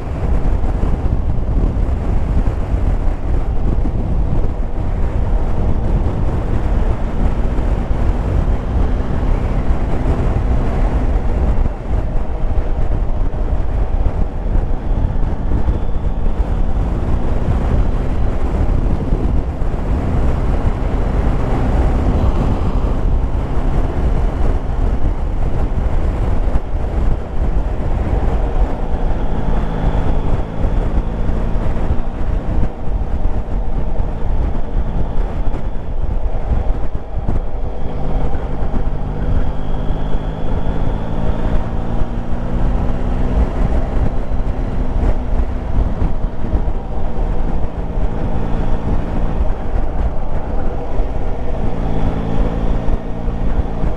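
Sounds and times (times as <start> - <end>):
motorcycle engine hum: 0.0 - 53.9
wind rushing over microphone: 0.0 - 53.9.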